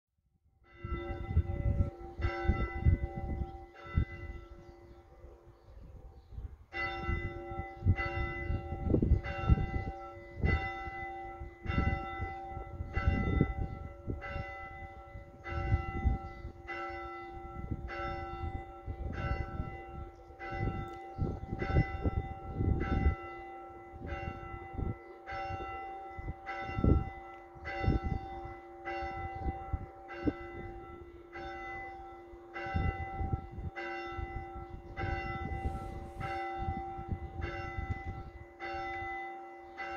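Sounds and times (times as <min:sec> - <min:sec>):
church bell tolling: 0:00.6 - 0:05.2, 0:06.7 - 0:39.9.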